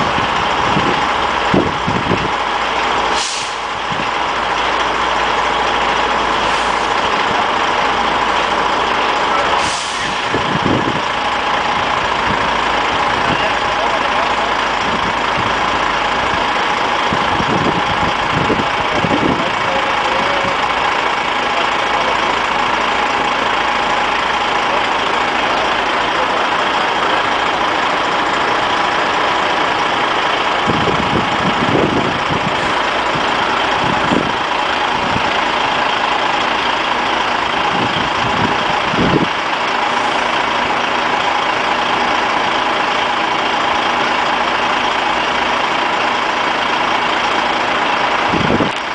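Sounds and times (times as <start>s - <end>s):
truck diesel engines idling: 0.0s - 48.9s.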